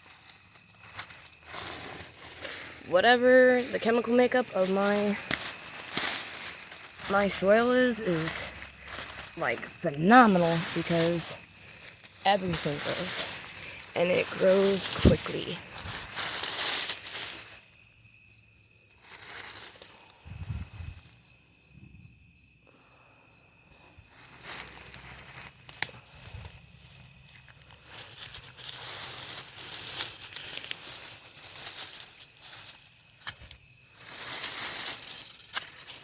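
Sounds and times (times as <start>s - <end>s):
rustling and crackling of plants: 0.0s - 21.4s, 23.7s - 36.0s
insects chirping: 0.0s - 36.0s.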